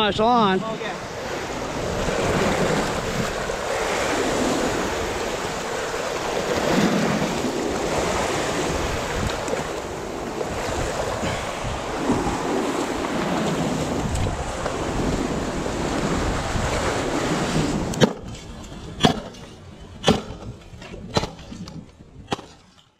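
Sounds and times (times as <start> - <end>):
surf washing over rocks: 0.0 - 19.0
wind buffeting microphone: 0.0 - 22.7.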